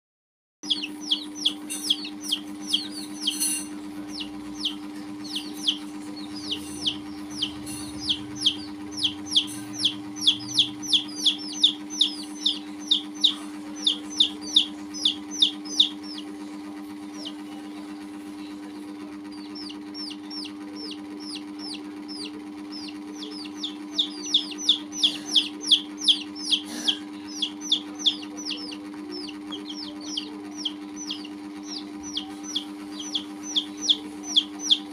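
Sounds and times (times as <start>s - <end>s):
baby chicks peeping: 0.6s - 34.9s
steady low hum: 0.6s - 34.9s.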